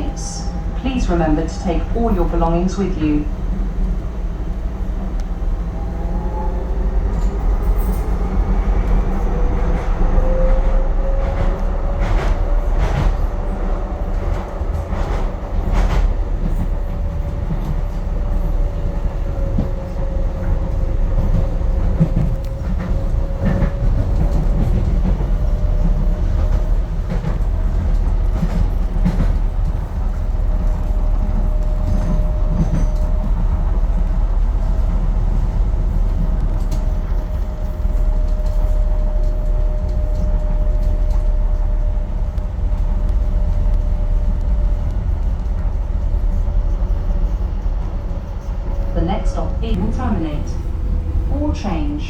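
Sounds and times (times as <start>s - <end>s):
train rumble and whine: 0.0s - 52.0s.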